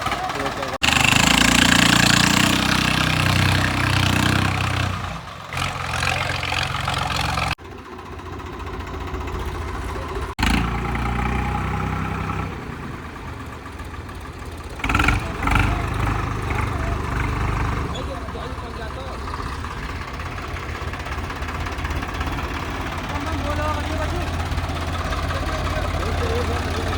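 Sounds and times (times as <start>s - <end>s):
diesel tractor engine running: 0.0s - 26.9s.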